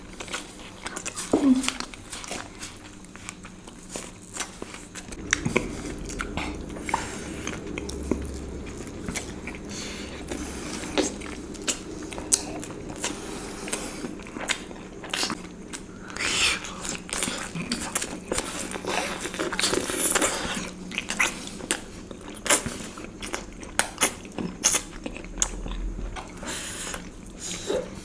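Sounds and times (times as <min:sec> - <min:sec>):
chewing and biting: 0:00.1 - 0:27.9.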